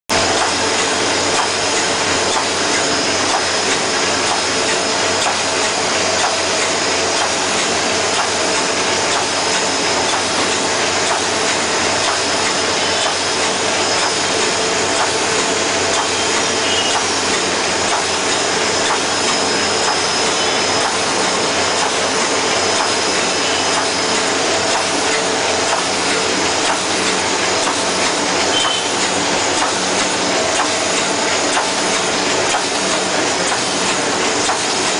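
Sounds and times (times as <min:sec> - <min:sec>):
envelope machine running: 0:00.1 - 0:34.9.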